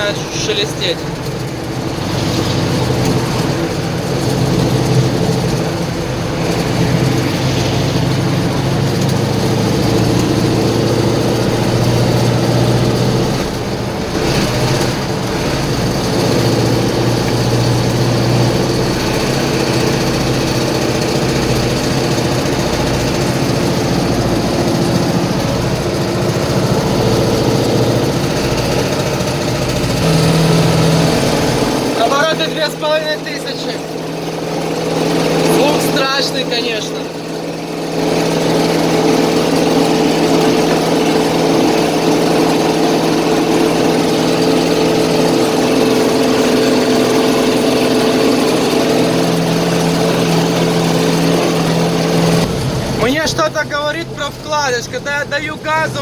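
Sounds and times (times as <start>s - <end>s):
engine running with rustling knock: 0.0s - 56.0s.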